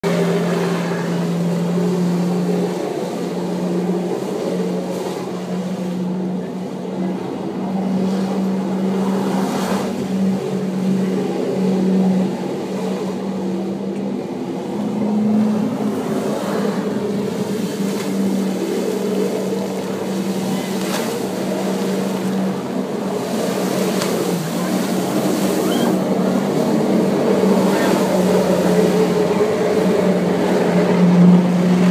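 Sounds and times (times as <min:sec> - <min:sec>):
jet ski engine running: 0:00.0 - 0:31.9.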